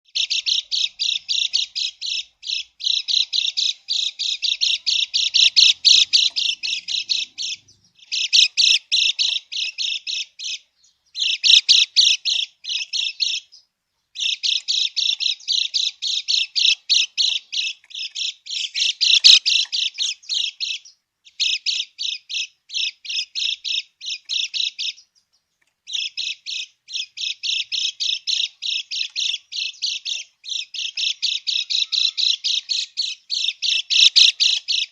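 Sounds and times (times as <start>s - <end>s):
bird harsh rasping chatter: 0.2s - 13.6s, 14.2s - 25.1s, 25.9s - 34.9s.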